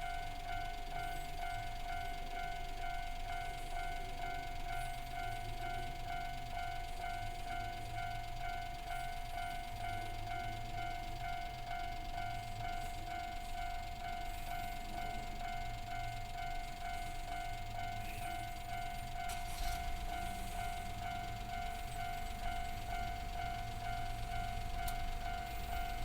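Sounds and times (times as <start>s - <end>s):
level-crossing alarm ringing: 0.0s - 26.0s.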